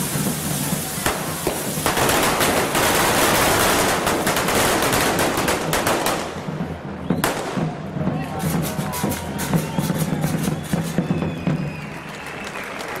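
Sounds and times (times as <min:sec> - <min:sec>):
firework crackle: 0:00.0 - 0:13.0.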